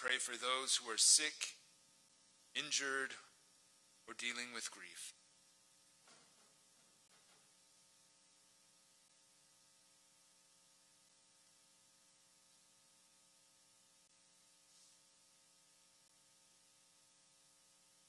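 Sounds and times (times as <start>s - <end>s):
faint electrical hum and hiss: 0.0s - 18.0s.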